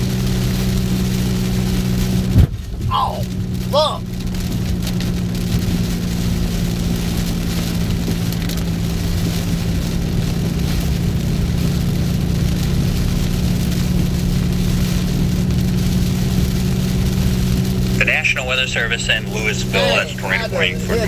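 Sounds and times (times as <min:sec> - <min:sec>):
car engine and road drone: 0:00.0 - 0:21.0
rain hitting a vehicle: 0:00.0 - 0:21.0.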